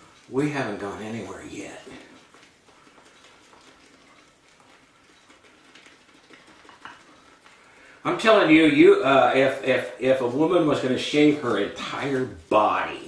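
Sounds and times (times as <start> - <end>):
shaving brush whipping lather: 0.0 - 13.0.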